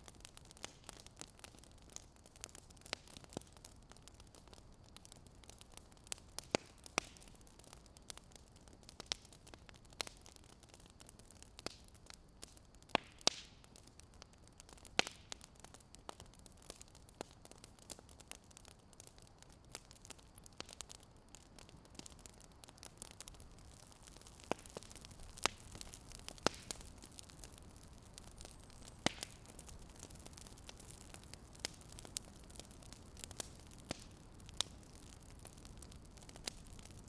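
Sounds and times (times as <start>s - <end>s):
faint steady hiss: 0.0s - 37.0s
fire crackling: 0.0s - 37.0s.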